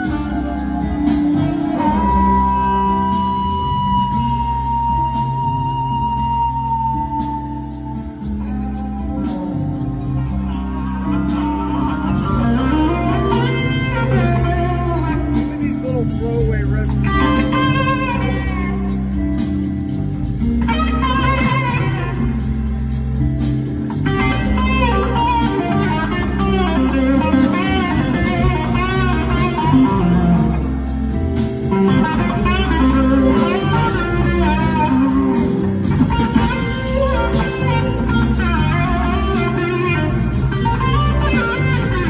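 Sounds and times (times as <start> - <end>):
bass and drums: 0.0 - 42.0
electric guitar lead bending notes: 0.0 - 42.0.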